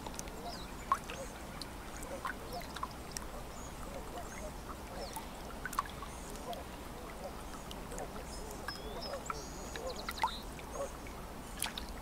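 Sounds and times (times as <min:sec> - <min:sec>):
birds calling and chirping: 0:00.3 - 0:11.0.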